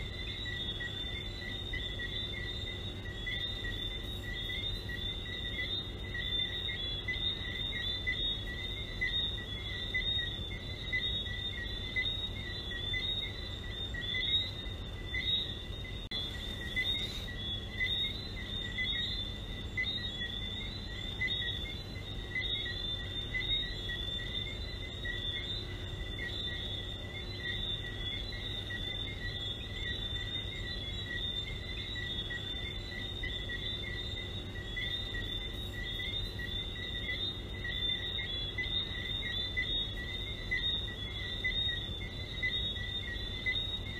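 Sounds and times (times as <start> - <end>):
frogs chirping: 0.0 - 43.9
low steady rumble: 0.0 - 43.9.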